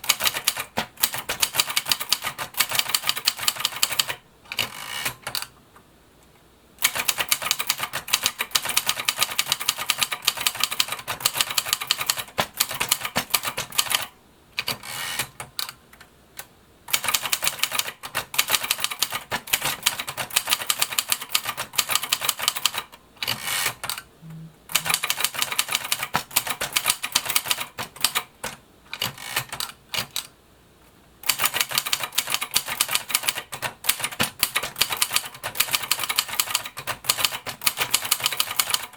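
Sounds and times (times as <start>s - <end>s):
typewriter keys clacking: 0.0s - 5.4s, 6.8s - 15.8s, 16.9s - 24.0s, 24.7s - 30.3s, 31.2s - 38.9s.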